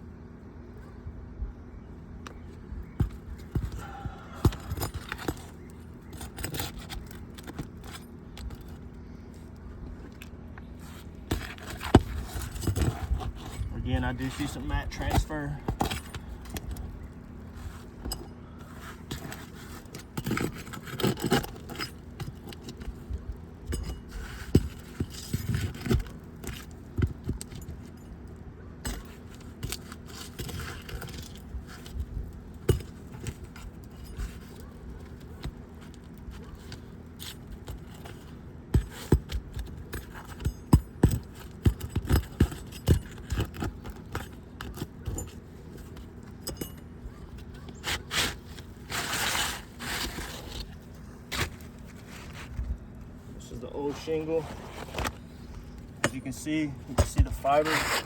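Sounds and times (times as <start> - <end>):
tool scraping and tapping shingles: 2.2 - 58.0.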